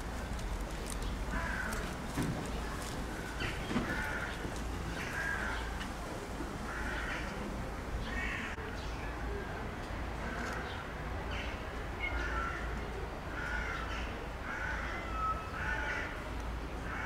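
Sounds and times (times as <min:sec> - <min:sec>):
birds calling harshly: 0:00.0 - 0:09.0, 0:10.2 - 0:17.0.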